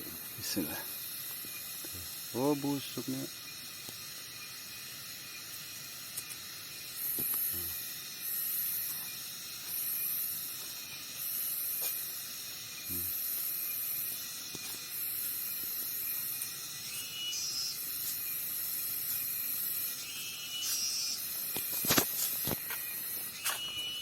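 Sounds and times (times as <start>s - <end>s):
cicadas buzzing: 0.0s - 24.0s
insect noise: 0.0s - 24.0s.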